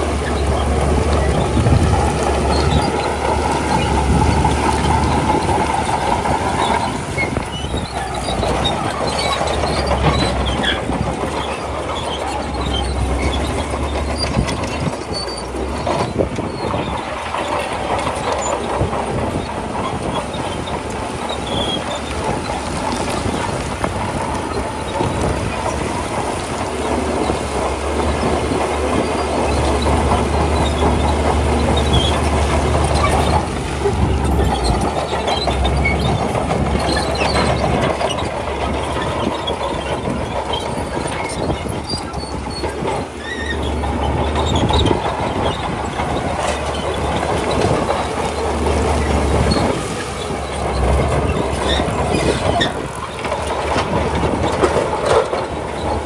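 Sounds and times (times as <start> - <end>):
bulldozer diesel engine droning: 0.0 - 56.0
clanking steel tracks and stone: 0.0 - 56.0.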